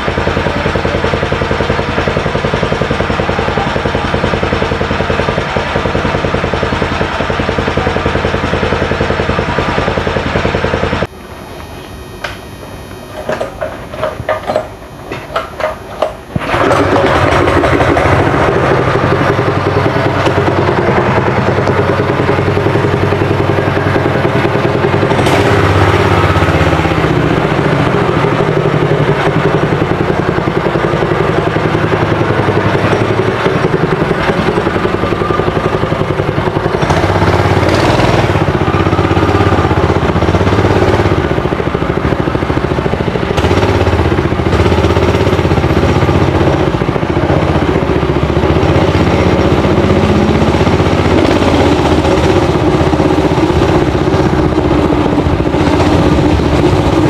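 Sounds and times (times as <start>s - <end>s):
small engine running and revving: 0.0s - 11.1s, 16.4s - 57.0s.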